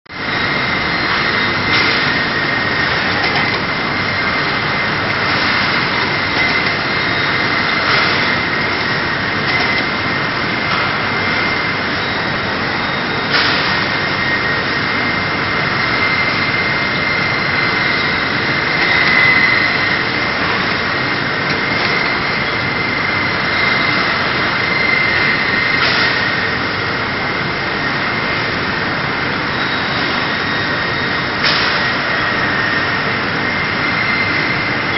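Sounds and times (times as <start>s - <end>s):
machine hum with high whine: 0.1s - 34.9s.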